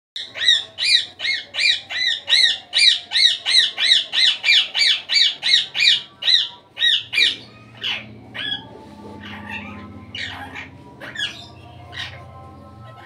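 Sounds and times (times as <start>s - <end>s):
parrot squawking: 0.2s - 13.0s.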